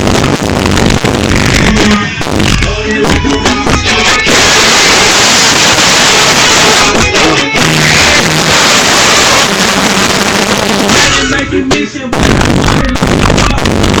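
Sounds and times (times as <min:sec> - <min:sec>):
loud music through speakers: 0:00.0 - 0:14.0.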